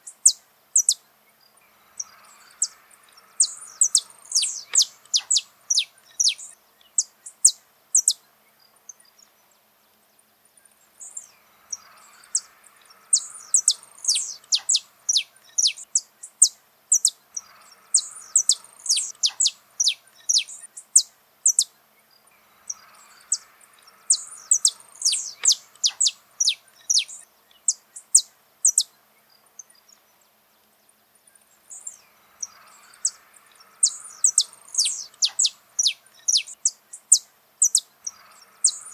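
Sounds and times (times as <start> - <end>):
finch chirping: 0.1 - 1.0, 1.9 - 8.2, 11.0 - 21.8, 22.6 - 28.9, 31.7 - 38.9.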